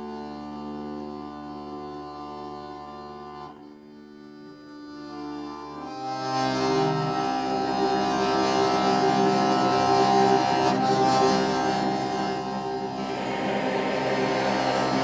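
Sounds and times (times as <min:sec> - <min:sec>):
accordion playing chords: 0:00.0 - 0:15.0.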